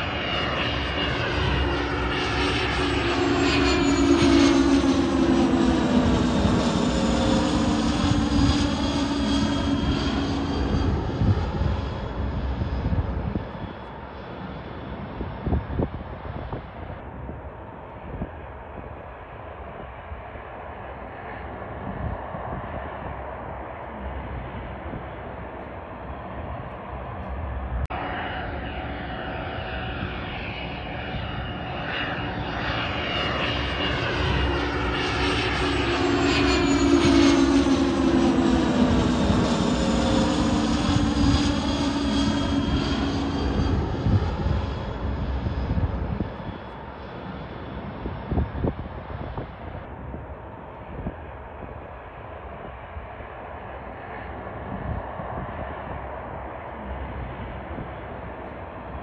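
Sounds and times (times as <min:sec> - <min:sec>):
jet passing overhead: 0:00.0 - 0:59.0.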